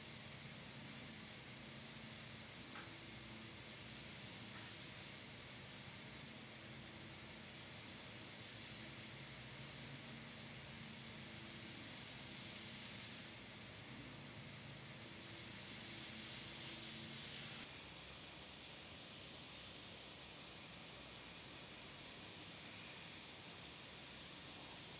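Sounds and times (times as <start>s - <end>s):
airbrush air hissing: 0.0s - 24.9s.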